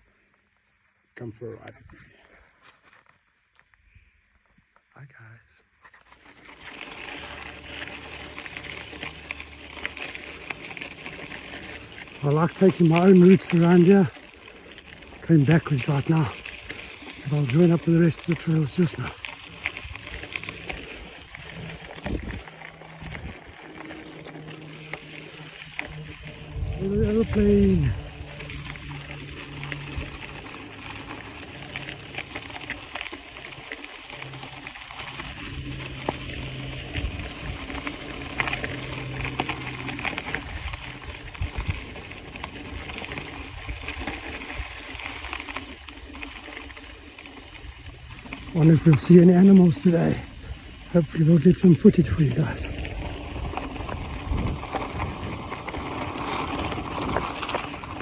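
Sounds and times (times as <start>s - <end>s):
bike tyres on dirt trail: 0.0s - 5.1s, 5.7s - 58.0s
bike clicks and rattles: 5.8s - 58.0s
aeroplane hum overhead: 6.0s - 58.0s.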